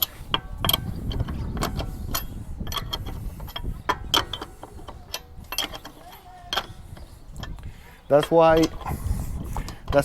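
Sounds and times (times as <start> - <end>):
lug wrench clinking on nuts: 0.0 - 8.9.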